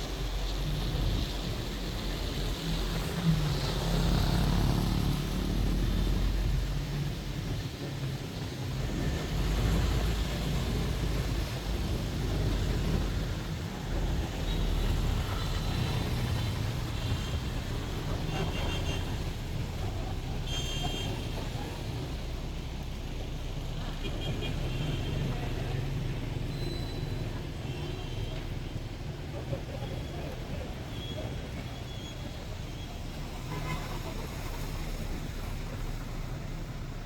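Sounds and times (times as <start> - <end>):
bus engine and road rumble: 0.0 - 37.0
tyre and street noise: 0.0 - 37.0.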